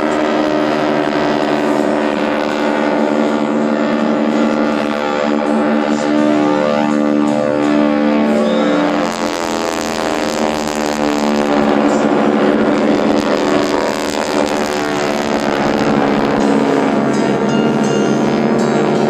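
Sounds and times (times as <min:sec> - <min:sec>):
propeller plane engines droning: 0:00.0 - 0:19.0.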